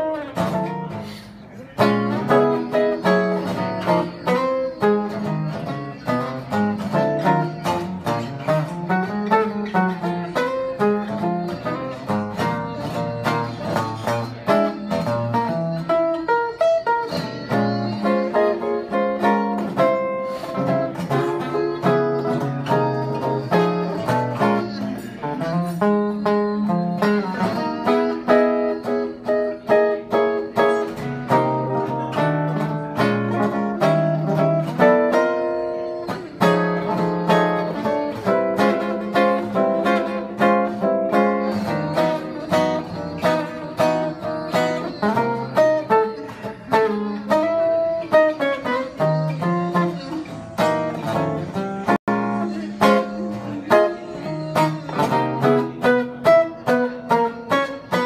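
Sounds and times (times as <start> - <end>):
solo jazz guitar: 0.0 - 58.0.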